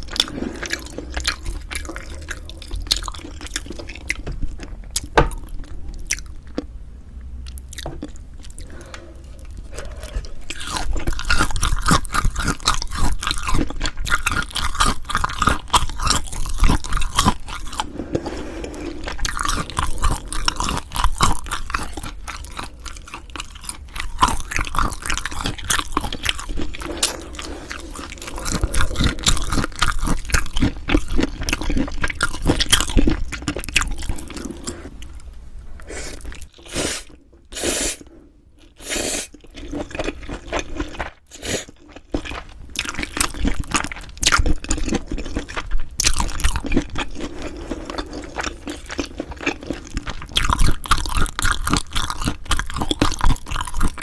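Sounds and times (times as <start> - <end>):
person chewing and crunching food: 0.0 - 6.7, 7.4 - 54.0.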